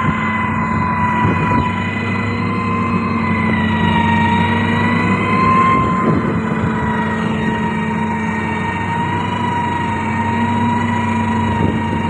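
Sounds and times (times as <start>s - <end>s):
diesel engine rumbling under load: 0.0s - 12.0s.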